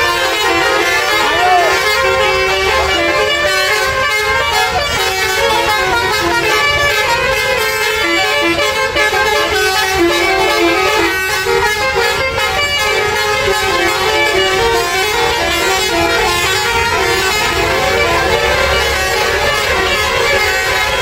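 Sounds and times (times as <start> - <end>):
musical air horns playing tunes: 0.0 - 21.0.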